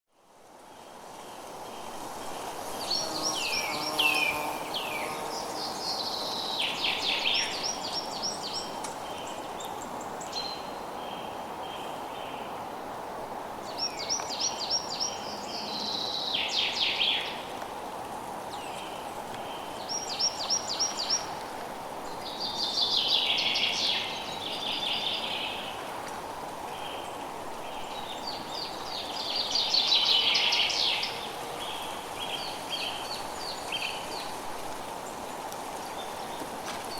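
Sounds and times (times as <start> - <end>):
steady outdoor hiss: 0.1 - 36.9.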